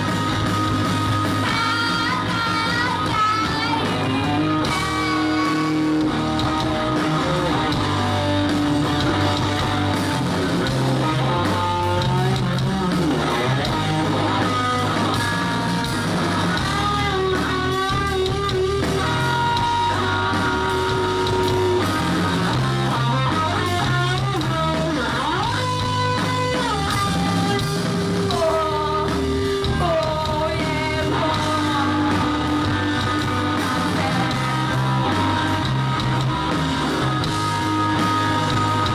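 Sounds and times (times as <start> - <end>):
rock song: 0.0 - 38.9.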